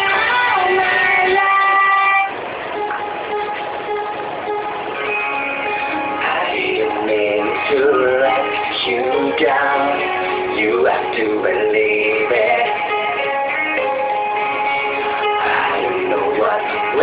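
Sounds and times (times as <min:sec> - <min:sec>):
love song instrumental intro: 0:00.0 - 0:17.0.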